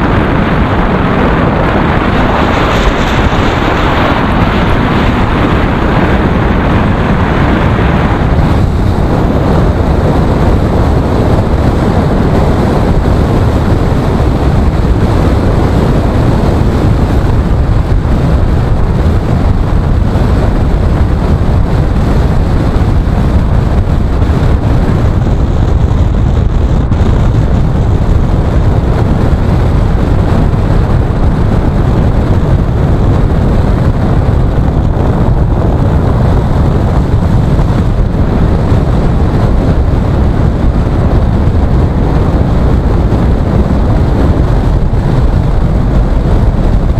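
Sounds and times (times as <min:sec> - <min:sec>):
car road noise on wet road: 0:00.0 - 0:46.9.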